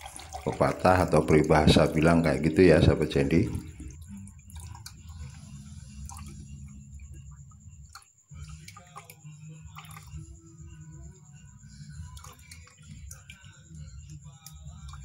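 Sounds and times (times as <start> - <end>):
liquid trickling into jar: 0.0 - 15.0.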